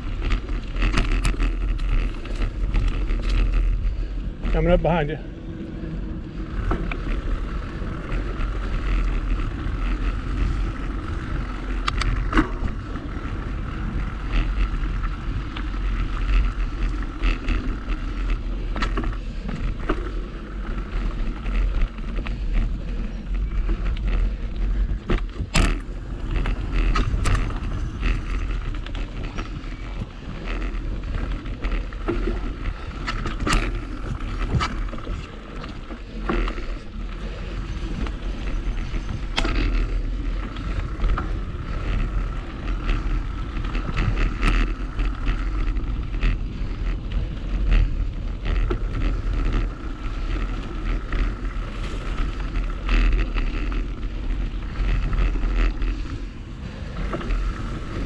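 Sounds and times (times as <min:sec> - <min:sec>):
bike rattling and knocking: 0:00.0 - 0:05.6, 0:06.3 - 0:58.0
bike tyres rolling over dirt: 0:00.0 - 0:58.0
wind rumble on microphone: 0:00.0 - 0:58.0.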